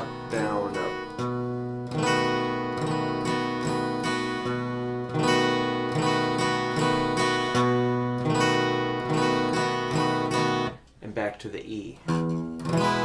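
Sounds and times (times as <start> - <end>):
guitar bass note and strums: 0.0 - 11.0, 12.0 - 13.0.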